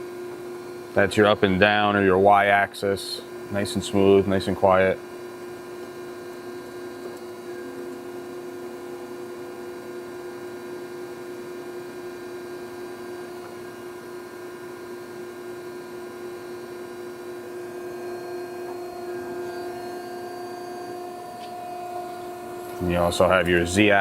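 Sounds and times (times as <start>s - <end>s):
grinder machine humming: 0.9s - 24.0s.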